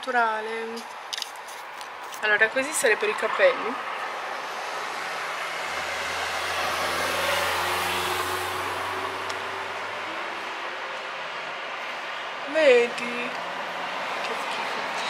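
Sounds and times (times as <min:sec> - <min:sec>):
rushing noise of passing vehicle: 0:01.0 - 0:15.0
vehicle engine hum: 0:01.8 - 0:15.0.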